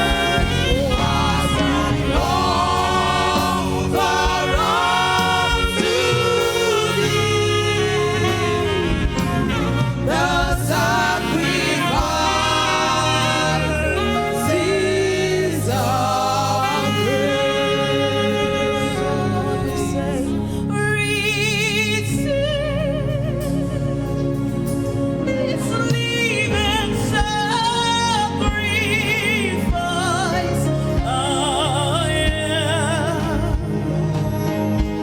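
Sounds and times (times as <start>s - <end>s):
gospel singers with a band: 0.0s - 35.0s.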